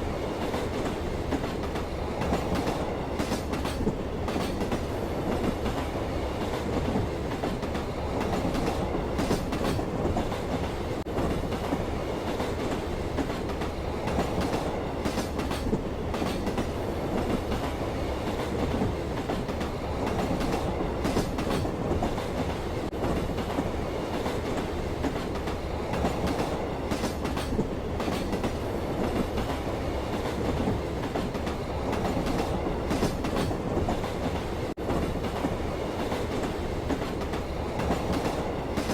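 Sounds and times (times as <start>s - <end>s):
train rumbling on rails: 0.0s - 38.9s
wheels clacking over rail joints: 0.4s - 38.9s.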